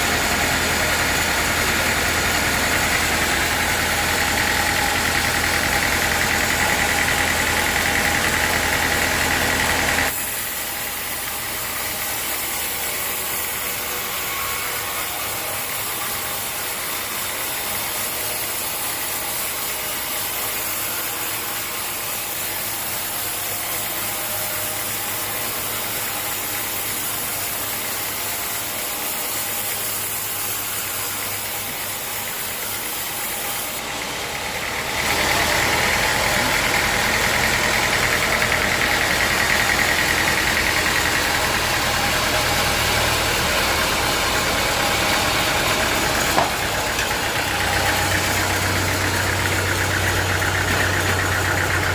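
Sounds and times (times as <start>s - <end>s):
rough mechanical noise: 0.0s - 51.9s
sawmill machinery running: 0.0s - 51.9s.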